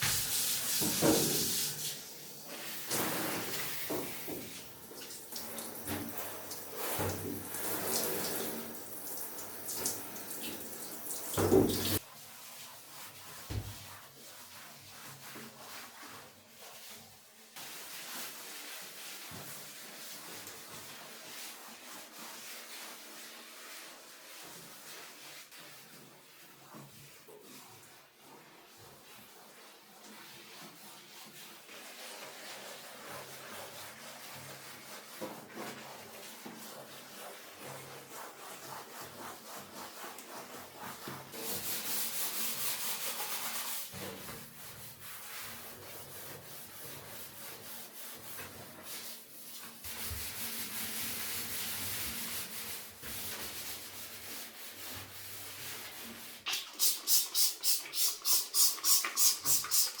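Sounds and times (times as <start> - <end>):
scrubbing a bathtub: 0.0 - 60.0.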